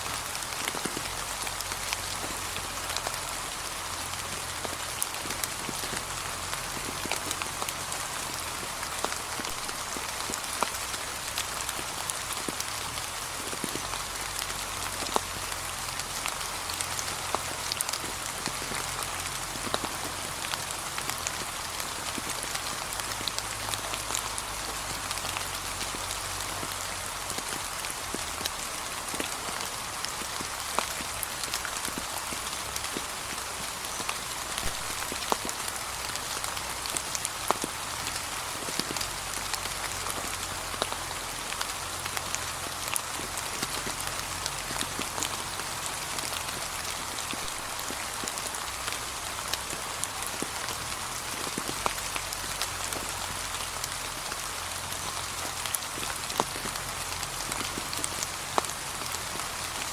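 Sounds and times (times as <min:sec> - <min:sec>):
light rain on fallen leaves: 0:00.0 - 0:59.9.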